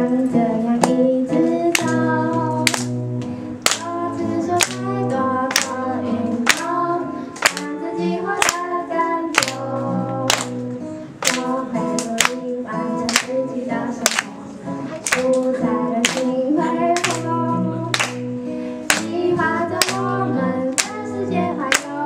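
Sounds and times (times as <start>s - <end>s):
woman singing into microphone: 0.0s - 3.0s, 3.6s - 22.0s
acoustic guitar: 0.0s - 22.0s
hand claps: 1.7s - 6.8s, 7.4s - 22.0s.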